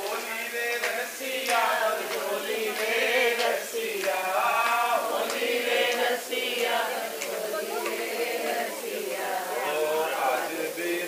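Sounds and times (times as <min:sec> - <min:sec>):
group chanting in unison: 0:00.0 - 0:11.0.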